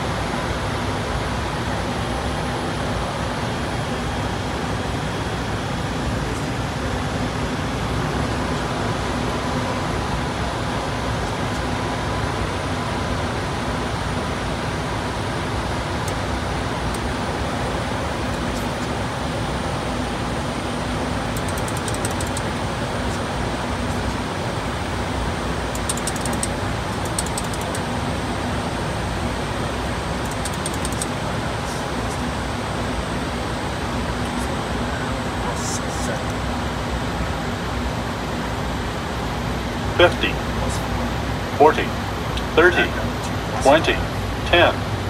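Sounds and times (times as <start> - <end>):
jet engines droning: 0.0 - 45.0.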